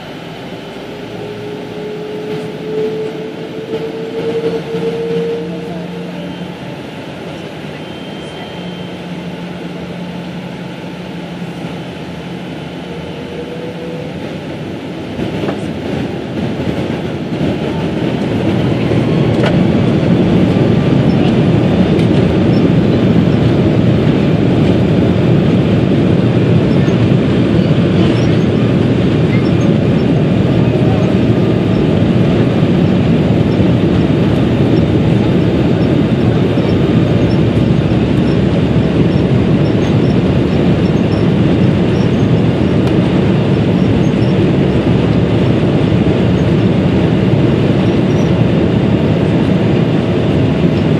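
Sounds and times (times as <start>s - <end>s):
jet engines spooling up: 0.0s - 50.9s
takeoff roll rumble: 0.0s - 50.9s.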